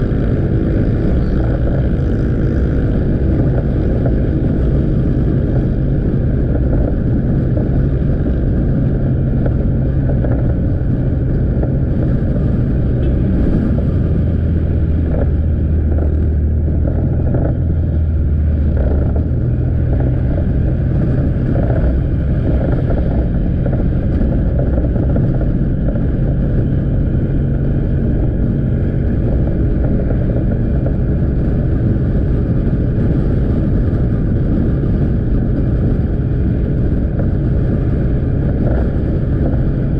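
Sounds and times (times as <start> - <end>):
motorbike engine running: 0.0 - 39.9
road and wind noise: 0.0 - 39.9.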